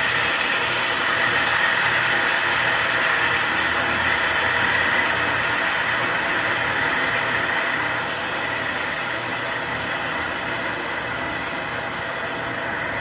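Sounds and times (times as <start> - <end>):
desk fan running: 0.0 - 13.0.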